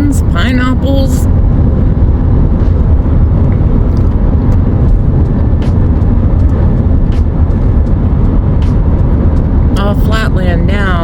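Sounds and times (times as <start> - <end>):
car driving at highway speed: 0.0 - 11.0.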